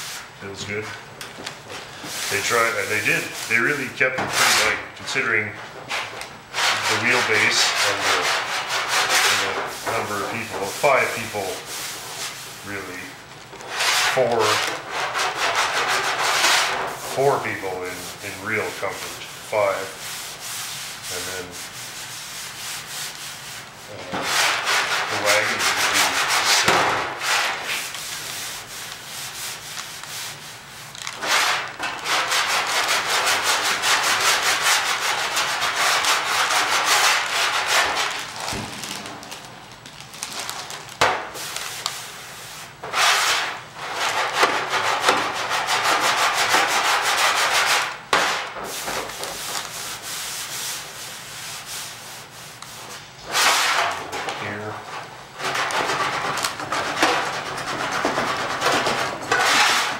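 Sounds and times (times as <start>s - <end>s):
hand sanding bare metal: 0.0s - 0.9s, 2.0s - 38.3s, 41.2s - 59.9s.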